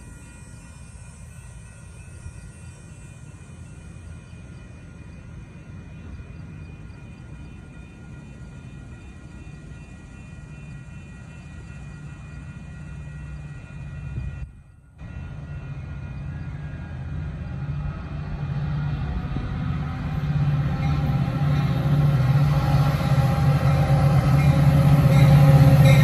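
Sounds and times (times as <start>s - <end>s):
diesel train engine rumble: 0.0s - 26.0s.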